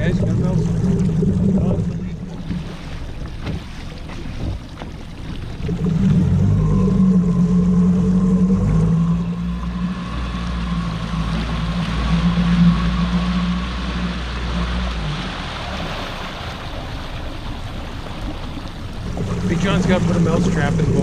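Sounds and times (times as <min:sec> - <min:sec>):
outboard motor running: 0:00.0 - 0:21.0
wind: 0:00.0 - 0:21.0.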